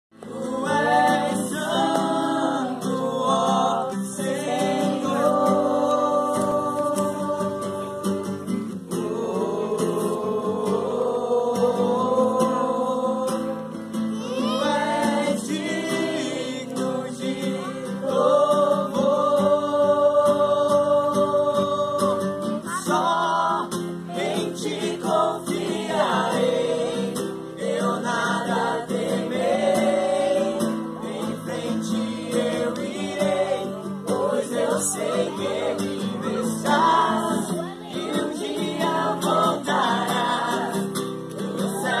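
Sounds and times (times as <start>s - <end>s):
voices singing gospel song: 0.2s - 42.0s.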